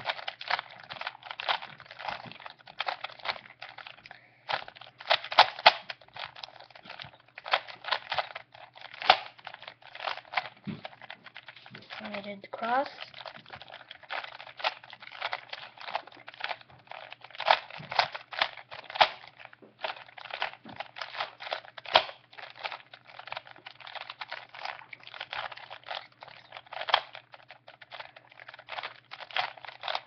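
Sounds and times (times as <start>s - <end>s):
puzzle cube plastic clicks: 0.0s - 30.0s.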